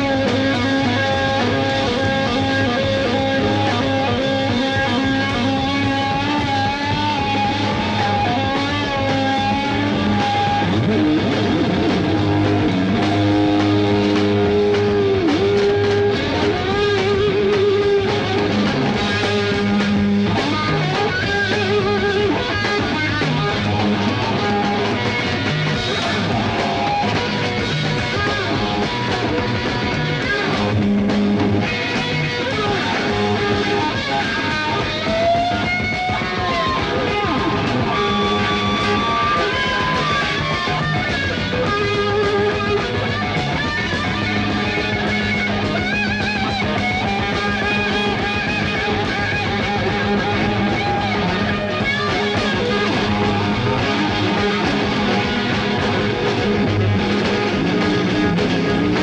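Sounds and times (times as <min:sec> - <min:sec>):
rock music with lead electric guitar: 0:00.0 - 0:59.0.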